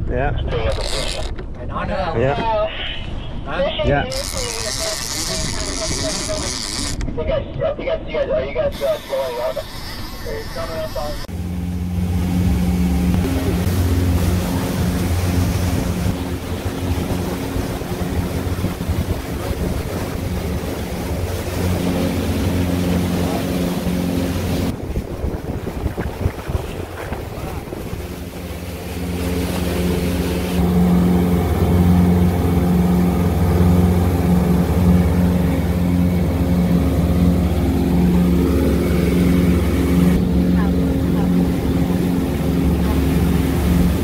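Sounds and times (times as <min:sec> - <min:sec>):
motorboat engine running: 0:04.0 - 0:07.1, 0:08.7 - 0:44.0.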